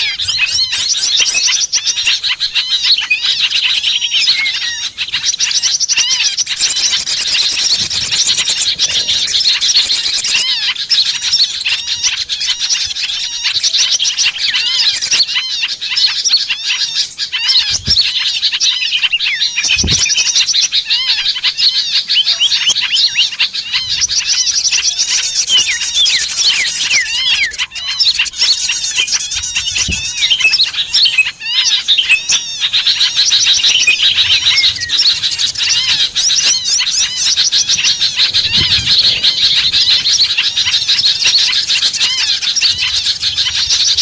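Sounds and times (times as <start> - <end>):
songbirds chirping and twittering: 0.0 - 44.0.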